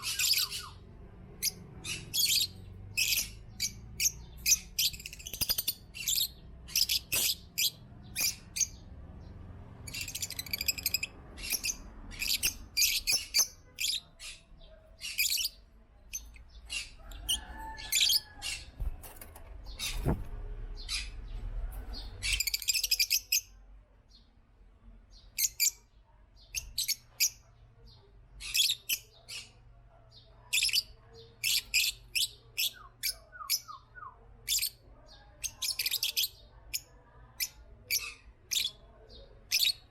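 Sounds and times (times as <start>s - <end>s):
lovebirds chirping: 0.0s - 23.5s, 25.1s - 39.9s.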